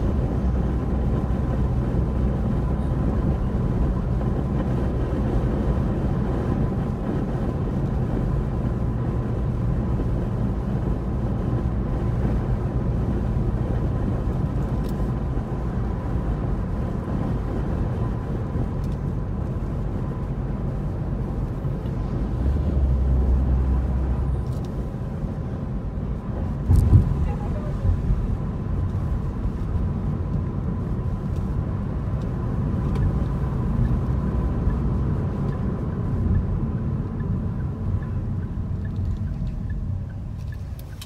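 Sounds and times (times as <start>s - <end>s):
car engine rumble: 0.0s - 41.0s.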